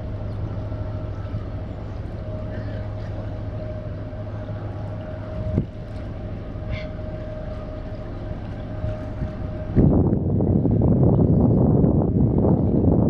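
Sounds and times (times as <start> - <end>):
ship engine humming: 0.0 - 13.0
wind buffeting microphone: 0.0 - 13.0.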